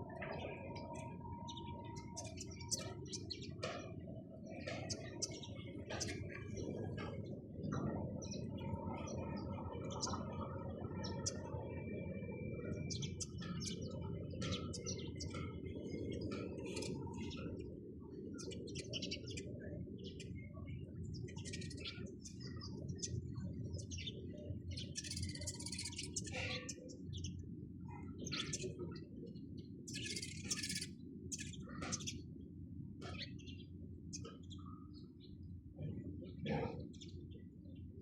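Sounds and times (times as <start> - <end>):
sparrows chirping: 0.0 - 32.3, 32.9 - 38.0.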